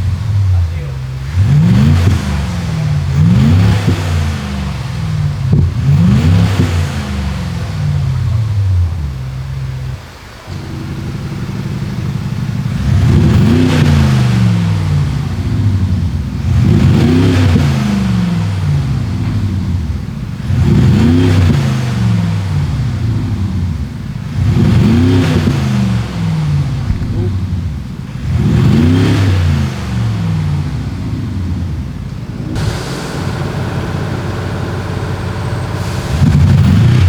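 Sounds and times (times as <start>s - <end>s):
engine revving through exhaust speakers: 0.0s - 37.0s.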